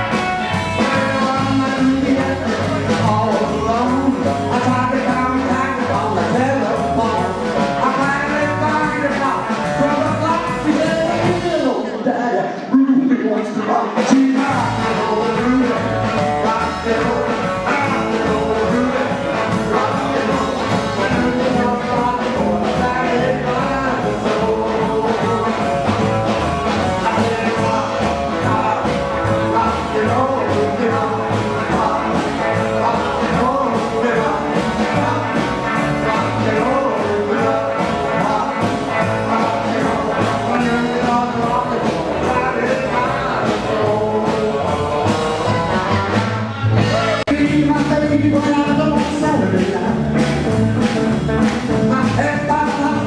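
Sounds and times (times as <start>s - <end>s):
rockabilly band playing live: 0.0s - 12.1s, 13.9s - 53.0s.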